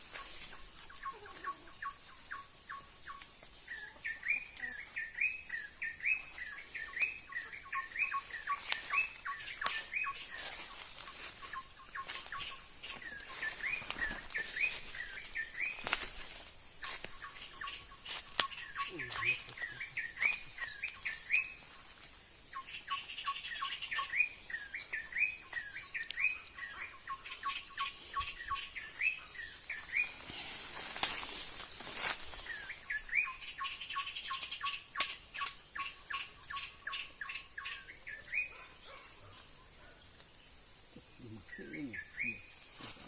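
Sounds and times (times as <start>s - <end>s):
birds chirping: 0.0s - 43.0s
insects droning: 0.0s - 43.0s.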